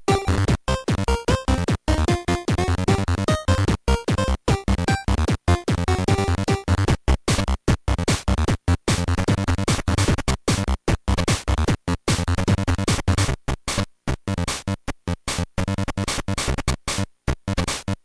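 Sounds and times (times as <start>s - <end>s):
electronic music with stuttering beat: 0.1s - 18.0s.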